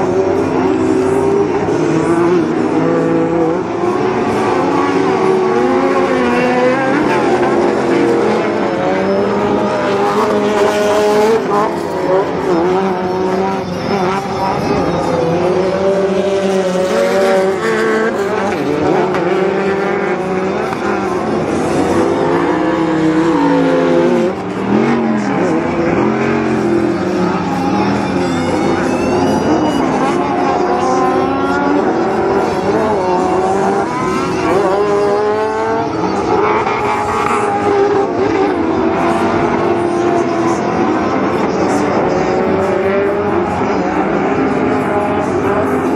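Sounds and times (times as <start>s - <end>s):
race truck engines revving: 0.0s - 45.9s.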